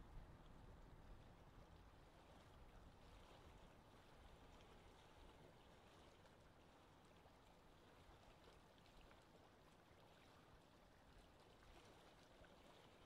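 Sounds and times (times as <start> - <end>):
faint lake water wash: 0.0 - 13.0.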